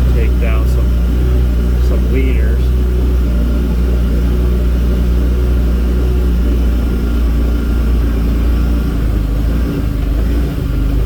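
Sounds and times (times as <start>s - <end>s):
off-road vehicle engine droning: 0.0s - 11.0s.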